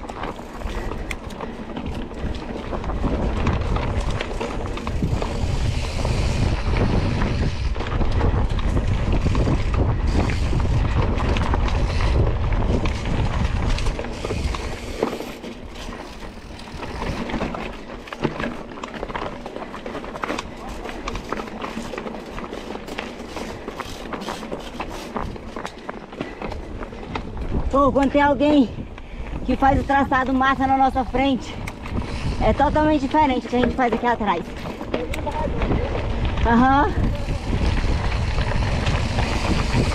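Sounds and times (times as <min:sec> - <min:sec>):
wind buffeting microphone: 0:00.0 - 0:18.1, 0:20.1 - 0:39.9
bike rattling on dirt trail: 0:00.0 - 0:39.9.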